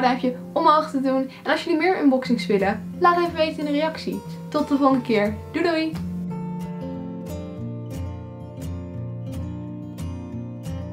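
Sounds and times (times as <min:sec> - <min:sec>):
strummed guitar music: 0:00.0 - 0:10.9.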